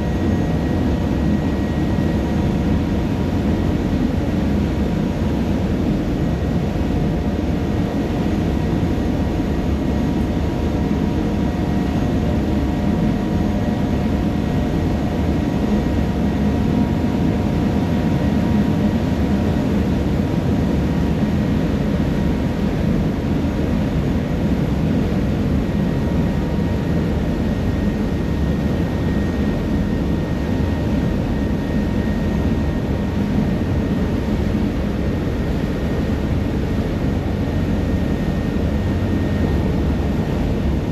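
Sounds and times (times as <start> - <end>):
faint constant hum: 0.0 - 40.9
ferry engine drone: 0.0 - 40.9
wind: 0.0 - 40.9.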